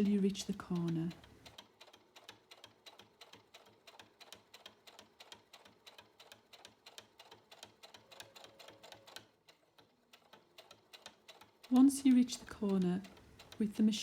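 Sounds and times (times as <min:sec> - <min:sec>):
sewing machine stitching: 0:00.0 - 0:14.0.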